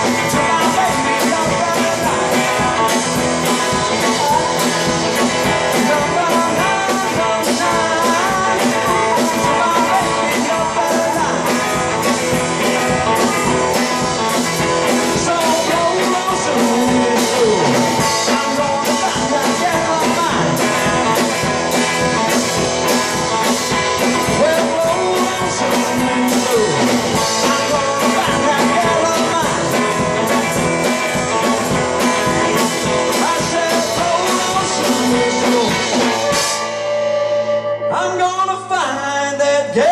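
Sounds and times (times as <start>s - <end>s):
drum kit beat: 0.0s - 39.0s
electric guitar: 0.0s - 39.9s.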